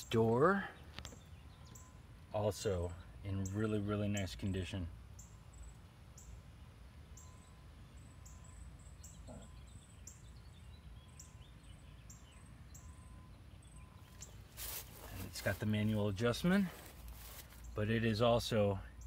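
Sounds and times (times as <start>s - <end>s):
bird chirping faintly: 0.0s - 19.0s.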